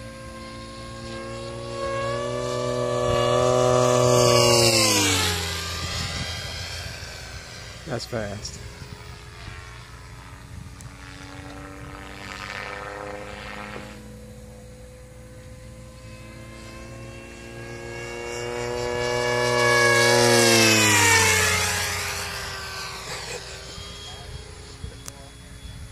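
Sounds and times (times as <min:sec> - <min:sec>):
model airplane motor whine: 0:00.0 - 0:25.9.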